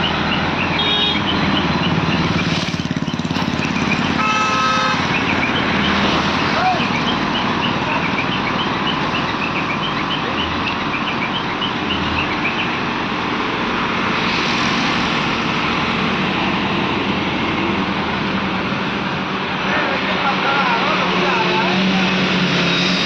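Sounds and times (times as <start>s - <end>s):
diesel engines droning: 0.0s - 23.0s.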